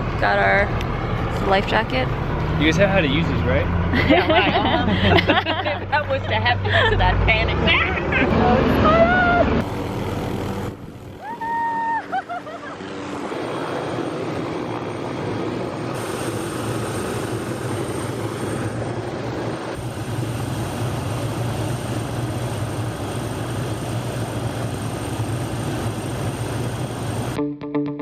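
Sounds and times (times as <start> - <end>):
helicopter turbine and rotor: 0.0 - 27.4.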